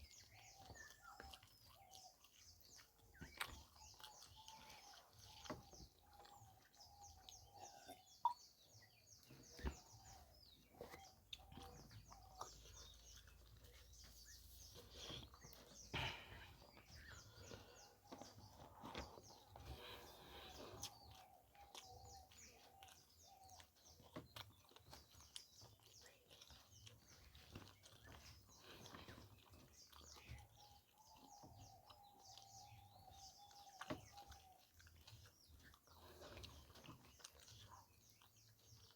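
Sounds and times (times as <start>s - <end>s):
chewing and wet mouth sounds: 0.0s - 38.9s.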